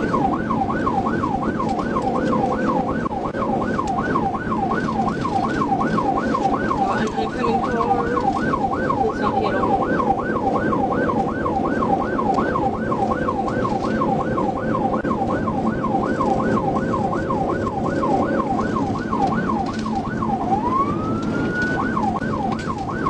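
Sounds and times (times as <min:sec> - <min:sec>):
car engine and road noise: 0:00.0 - 0:23.0
police siren yelping and wailing: 0:00.0 - 0:23.0.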